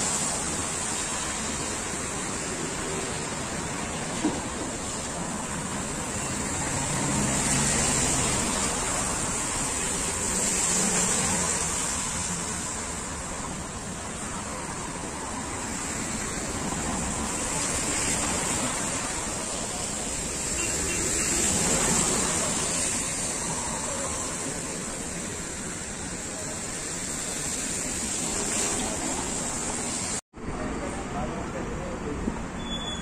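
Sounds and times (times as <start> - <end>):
tyres hissing on wet asphalt: 0.0 - 33.0.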